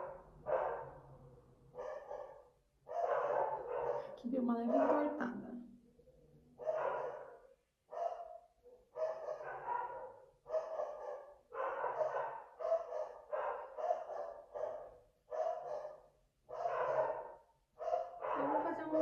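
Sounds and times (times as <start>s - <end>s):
dogs barking: 0.0s - 5.4s, 6.6s - 19.0s.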